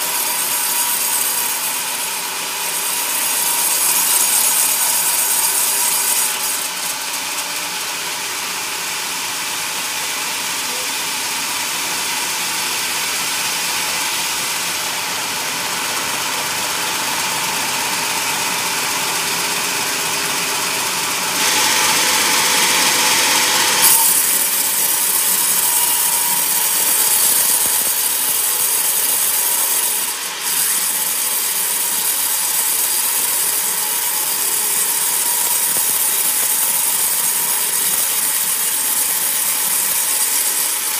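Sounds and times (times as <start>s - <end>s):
band saw cutting wood: 0.0s - 40.9s
constant saw whine: 0.0s - 40.9s.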